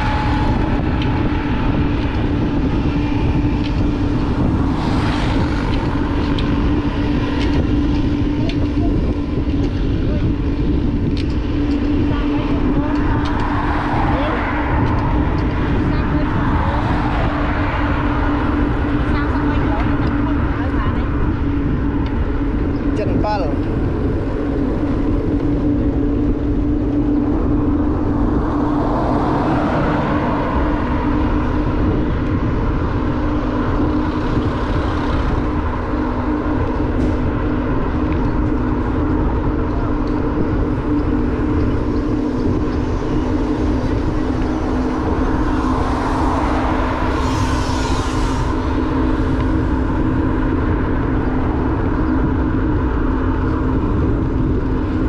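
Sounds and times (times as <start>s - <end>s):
motorbike engine cruising: 0.0s - 55.0s
wind rumble on microphone: 0.0s - 55.0s.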